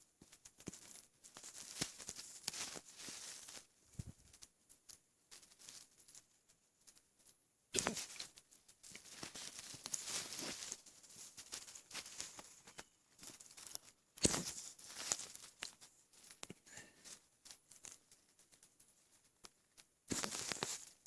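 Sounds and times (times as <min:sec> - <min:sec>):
crackling and rustling: 0:00.0 - 0:21.0.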